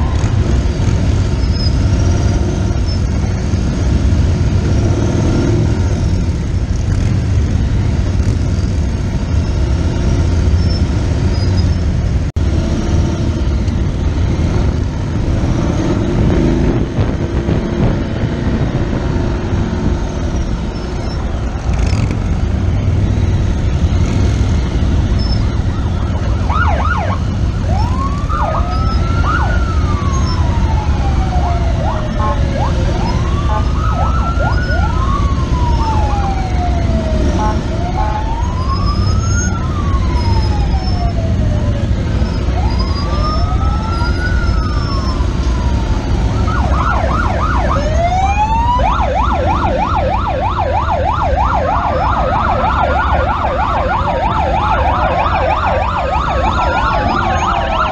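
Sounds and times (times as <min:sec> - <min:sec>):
motorcycle engines rumbling: 0:00.0 - 0:57.9
motorcycle sirens yelping and wailing: 0:00.0 - 0:57.9.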